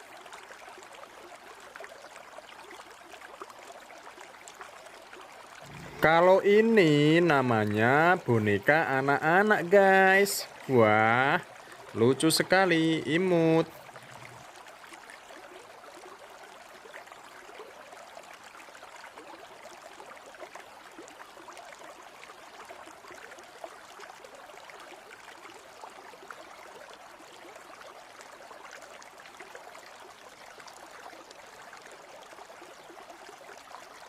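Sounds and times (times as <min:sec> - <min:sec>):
river water trickling: 0:00.0 - 0:34.0.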